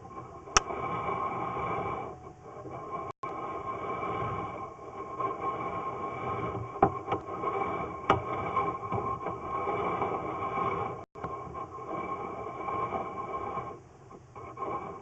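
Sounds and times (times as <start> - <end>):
hiss and hum: 0.0 - 15.0.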